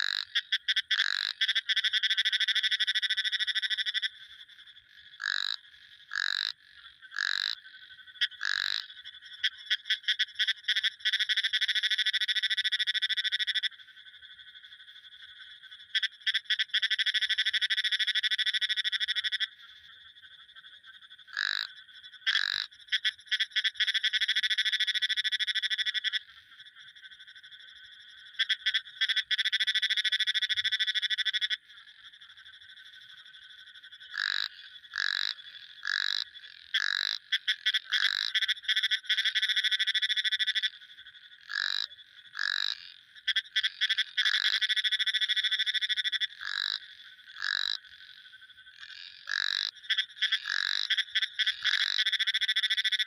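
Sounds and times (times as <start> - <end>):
frogs trilling: 0.0 - 53.0
short frog calls: 0.0 - 53.0.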